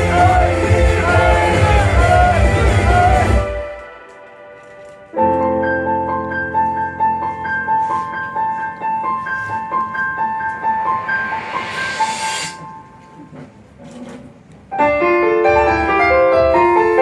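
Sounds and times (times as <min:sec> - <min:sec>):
piano playing bright notes: 0:00.0 - 0:13.3, 0:14.8 - 0:17.0.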